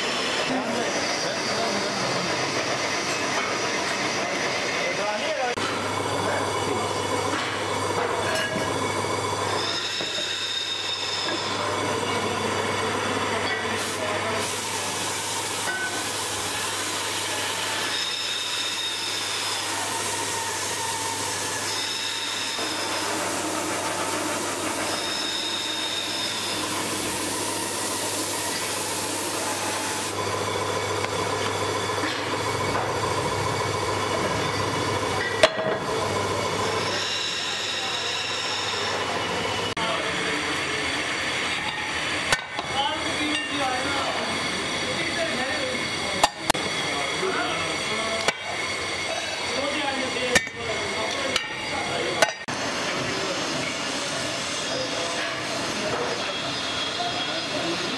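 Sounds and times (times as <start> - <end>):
mechanical workshop background: 0.0 - 57.9.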